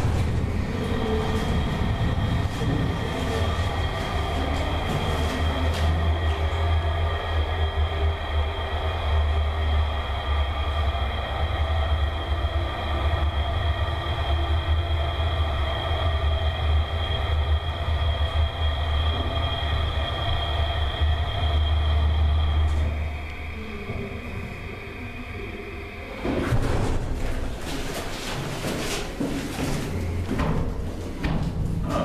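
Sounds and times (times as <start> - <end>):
steady high whine: 0.0 - 28.0
elevator drive low rumble: 0.0 - 32.0.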